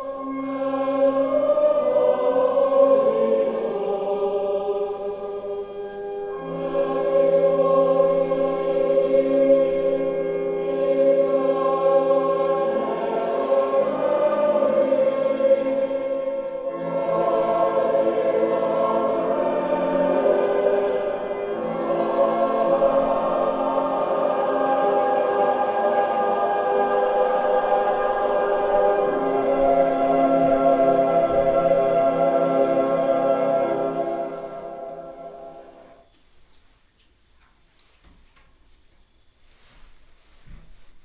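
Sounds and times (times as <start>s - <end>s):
choir singing a slow chant: 0.0s - 36.1s.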